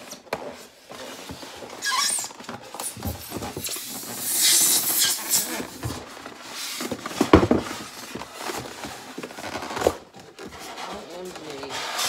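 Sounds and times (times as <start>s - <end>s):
cardboard and foam rustling and scraping: 0.0s - 12.0s.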